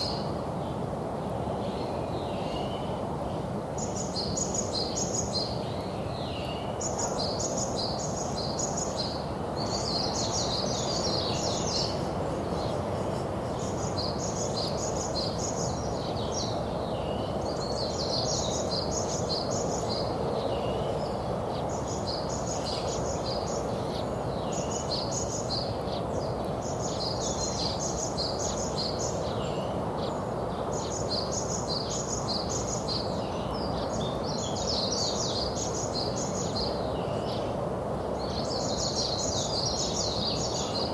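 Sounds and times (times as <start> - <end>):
low background noise: 0.0 - 40.9
songbirds chirping: 0.0 - 40.9.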